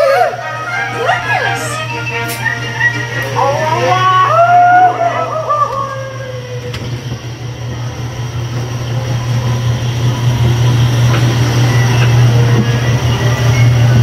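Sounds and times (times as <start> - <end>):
ride vehicle rumbling on track: 0.0 - 14.0.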